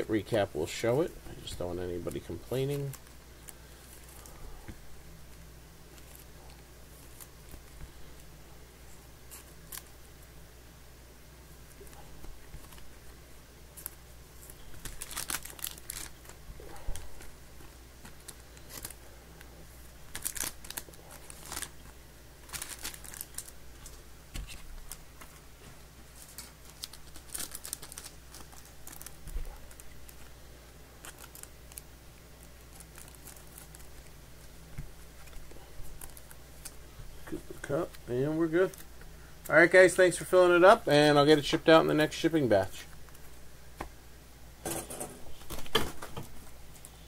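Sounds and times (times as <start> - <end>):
plastic sleeves crinkling: 0.2 - 4.5, 5.3 - 8.4, 9.2 - 10.0, 11.6 - 43.4.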